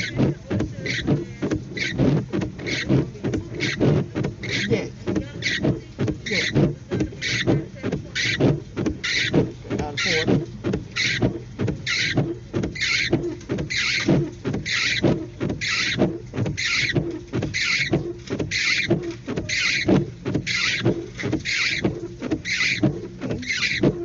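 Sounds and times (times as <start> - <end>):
windshield wipers swishing: 0.0 - 24.0.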